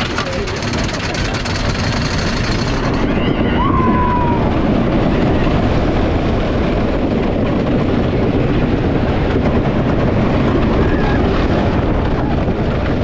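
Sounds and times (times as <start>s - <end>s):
roller coaster rushing on track: 0.0s - 13.0s.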